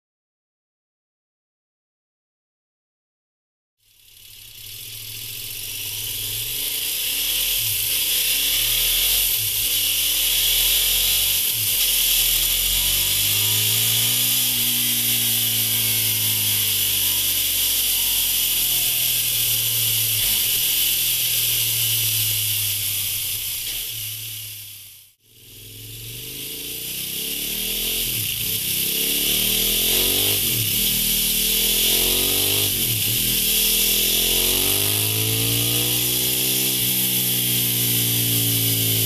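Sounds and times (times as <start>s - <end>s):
motorcycle engine running: 3.8s - 39.0s.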